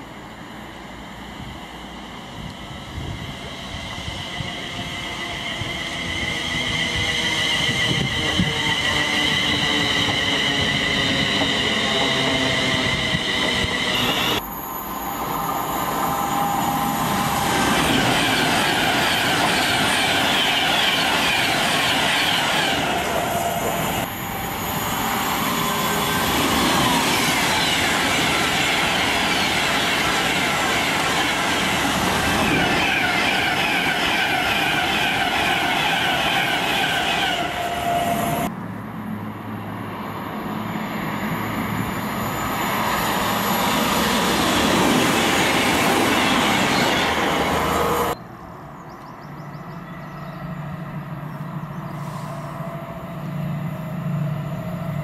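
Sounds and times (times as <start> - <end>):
diesel train engine hum: 0.0 - 55.0
electric trains passing at speed: 0.0 - 55.0.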